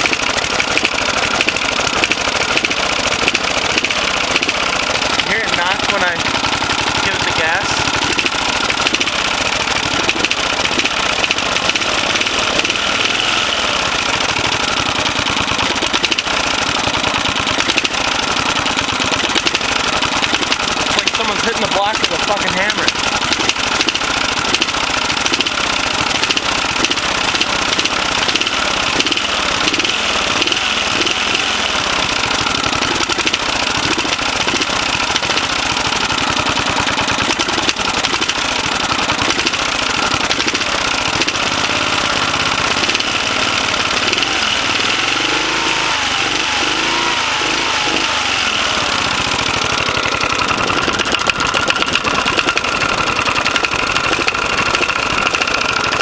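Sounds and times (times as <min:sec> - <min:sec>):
engine running with heavy knock: 0:00.0 - 0:56.0.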